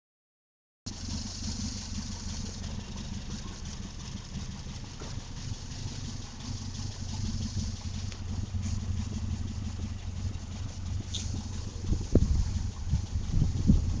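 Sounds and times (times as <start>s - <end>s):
car engine idling: 0.9s - 14.0s.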